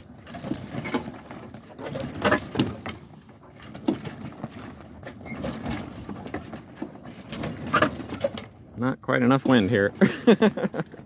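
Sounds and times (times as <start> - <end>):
sails and rigging slapping: 0.0 - 11.0.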